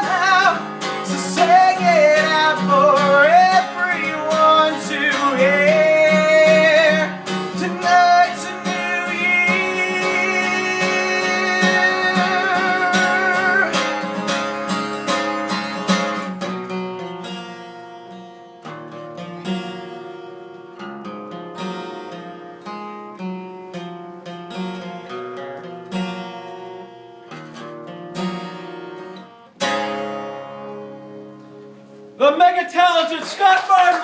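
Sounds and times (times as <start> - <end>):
acoustic guitar chords: 0.0 - 34.0.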